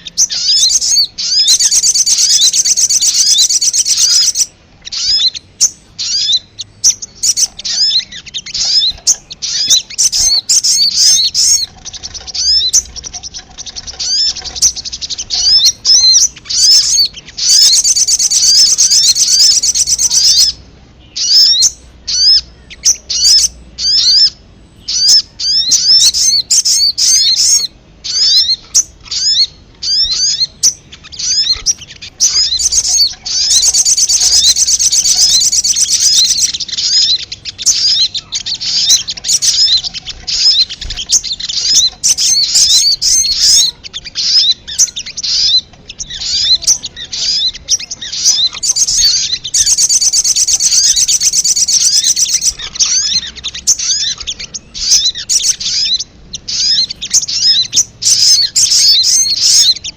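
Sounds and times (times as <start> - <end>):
fast buzzy bird trilling: 0.0 - 20.6, 21.2 - 59.9
sharp high bird chirps: 0.0 - 59.9.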